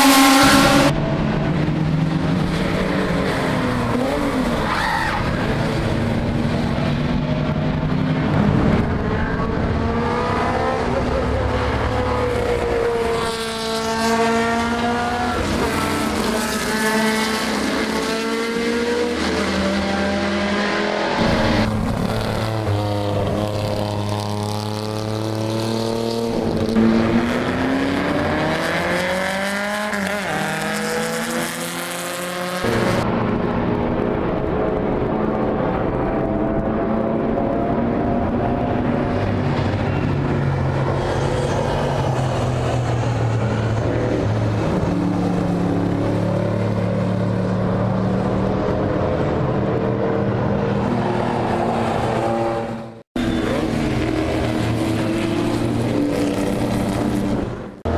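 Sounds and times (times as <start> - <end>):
racing car engines passing: 0.0 - 57.9.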